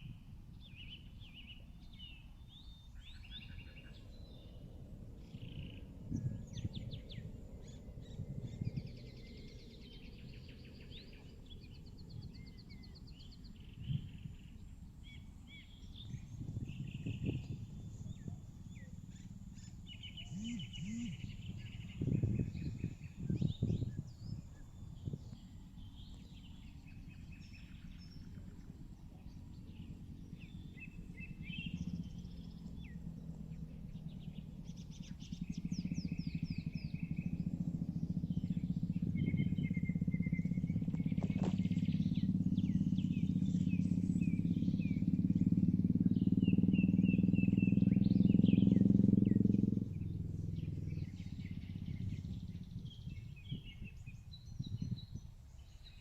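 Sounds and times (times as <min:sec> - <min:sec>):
birds chirping and trilling: 0:00.0 - 0:56.0
low engine-like hum: 0:00.0 - 0:56.0.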